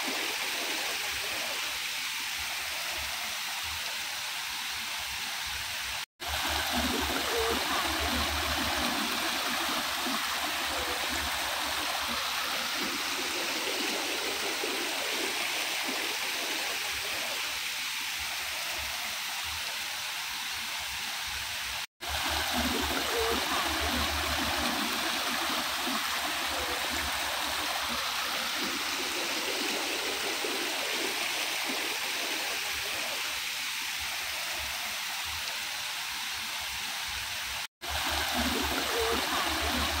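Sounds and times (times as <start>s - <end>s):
water running over rocks: 0.0s - 40.0s.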